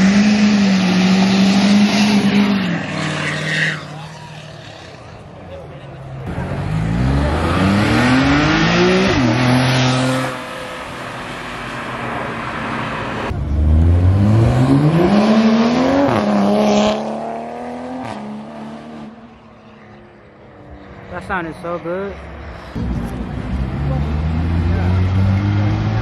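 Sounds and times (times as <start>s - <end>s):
cars accelerating past: 0.0s - 5.3s, 6.0s - 26.0s.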